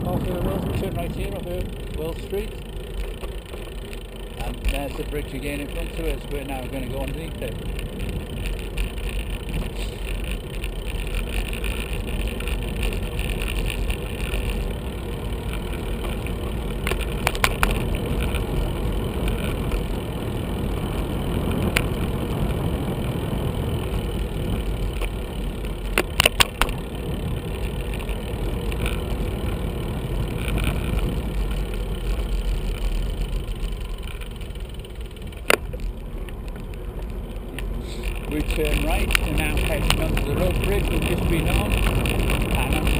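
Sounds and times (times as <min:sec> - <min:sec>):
wind noise: 0:00.0 - 0:02.4, 0:05.6 - 0:42.9
bicycle clicking over bumps: 0:00.0 - 0:42.9
bicycle tyre noise: 0:00.0 - 0:42.9.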